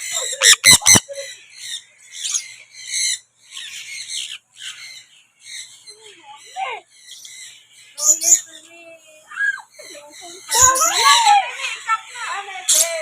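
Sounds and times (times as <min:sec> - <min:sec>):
birds squawky chirps: 0:00.0 - 0:13.0.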